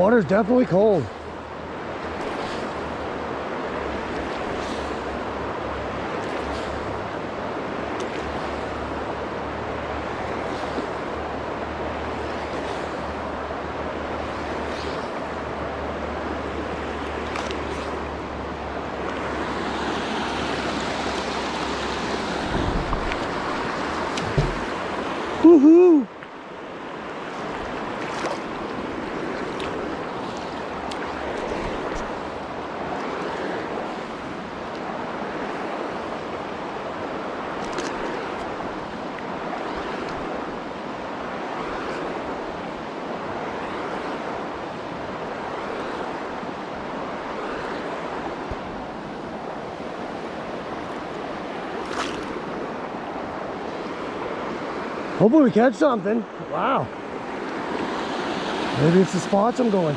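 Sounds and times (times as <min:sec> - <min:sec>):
river rushing over rocks: 0:00.0 - 0:59.9.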